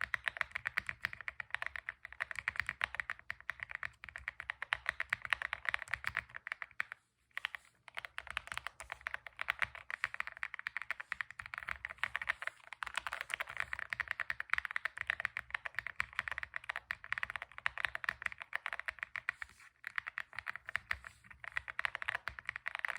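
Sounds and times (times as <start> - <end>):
mechanical keyboard typing: 0.0 - 22.9.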